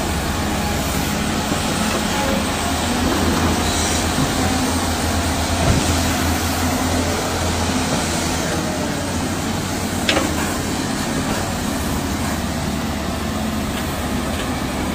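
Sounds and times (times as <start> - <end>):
excavator diesel engines digging: 0.0 - 14.9.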